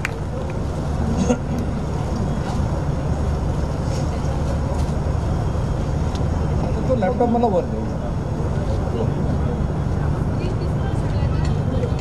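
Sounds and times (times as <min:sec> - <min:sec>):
murmur of voices: 0:00.0 - 0:12.0.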